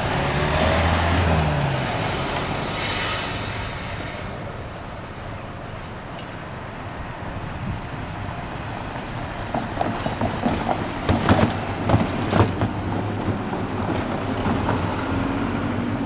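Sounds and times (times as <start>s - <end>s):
car engine hum: 0.0s - 16.0s
cars driving over tram rails: 0.0s - 16.0s
trailer rattling and clunking: 0.0s - 16.0s.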